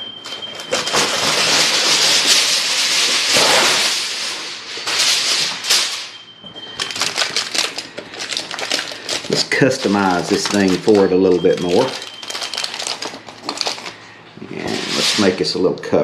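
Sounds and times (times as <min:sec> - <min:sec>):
aluminium foil crinkling: 0:00.2 - 0:15.6.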